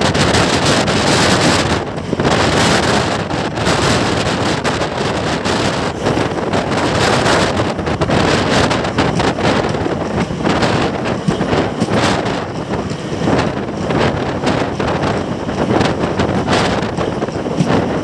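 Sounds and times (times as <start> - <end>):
train coaches running on track: 0.0 - 18.0
wind buffeting microphone: 0.0 - 18.0.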